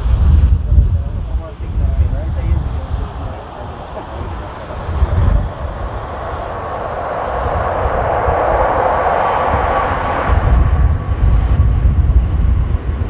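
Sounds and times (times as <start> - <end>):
jet engines roaring: 0.0 - 13.0
wind rumbling on microphone: 0.0 - 13.0.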